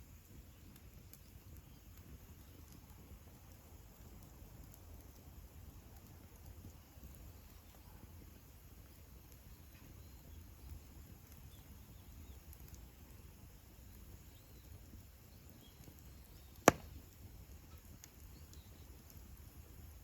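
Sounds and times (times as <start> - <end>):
burning wood popping: 0.0 - 20.0
campfire crackling: 0.0 - 20.0.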